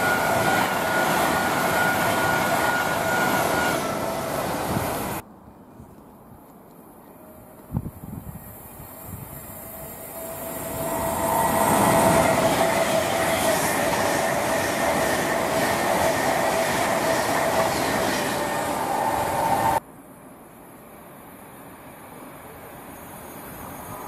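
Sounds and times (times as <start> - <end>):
electric train passing: 0.0 - 5.4, 7.1 - 24.0
train whine: 0.0 - 5.5, 7.0 - 24.0.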